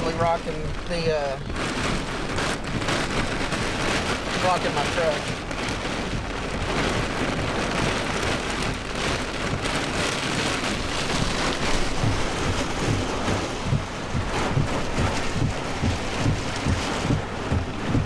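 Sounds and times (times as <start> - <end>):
heavy rain pelting a truck: 0.0 - 18.0
storm gusts buffeting: 0.0 - 18.0.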